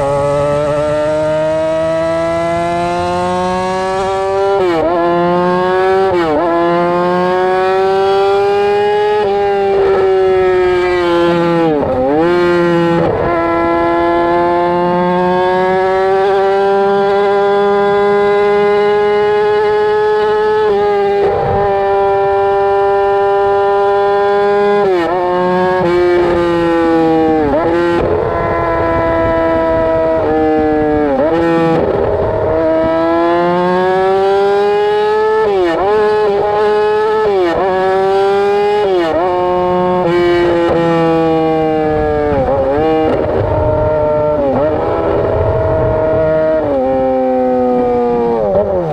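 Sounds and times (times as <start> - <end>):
motorcycle engine at high revs: 0.0 - 48.9.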